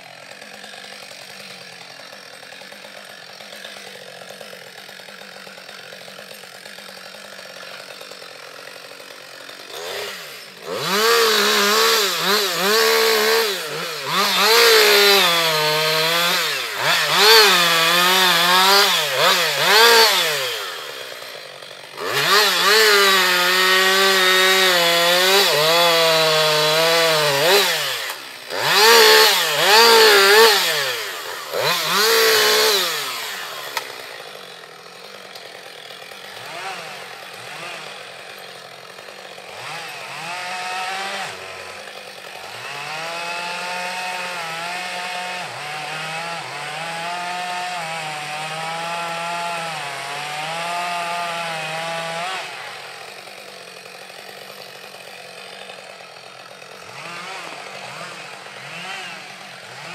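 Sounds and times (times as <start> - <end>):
chainsaw revving: 0.0 - 59.9.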